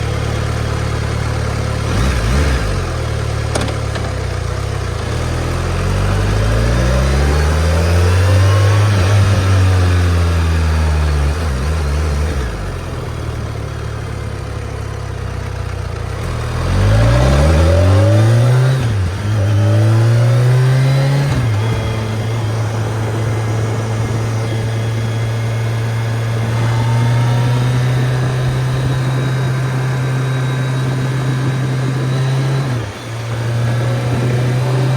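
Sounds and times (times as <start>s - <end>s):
motorcycle engine revving through gears: 0.0s - 34.9s.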